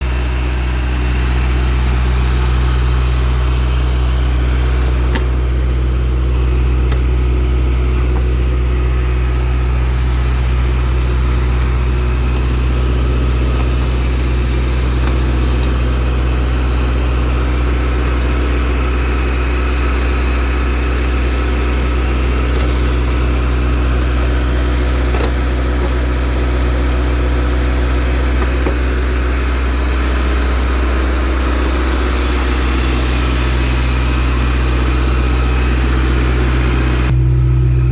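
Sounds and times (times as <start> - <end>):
diesel engine running steadily: 0.0 - 37.9.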